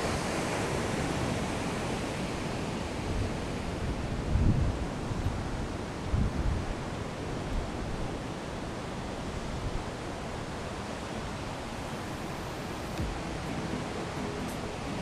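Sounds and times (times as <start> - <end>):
ocean surf breaking: 0.0 - 15.0
wind gusts hitting microphone: 0.0 - 15.0.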